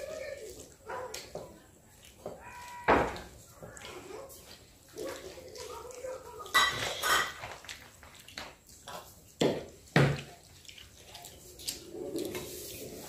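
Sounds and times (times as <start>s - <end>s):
wet eating sounds: 0.0s - 13.0s.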